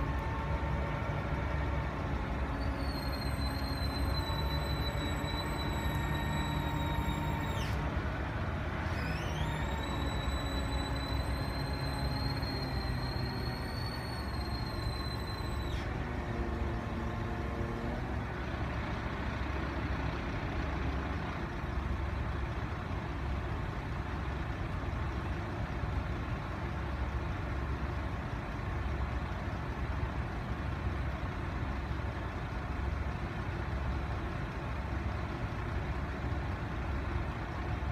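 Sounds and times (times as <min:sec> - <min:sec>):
diesel truck engine rumbling: 0:00.0 - 0:37.9.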